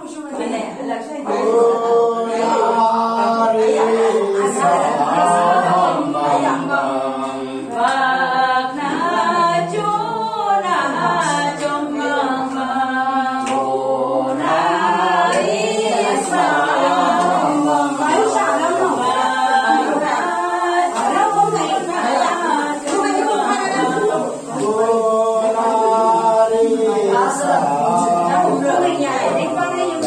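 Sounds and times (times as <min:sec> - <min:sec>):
group singing a cappella: 0:00.0 - 0:30.0.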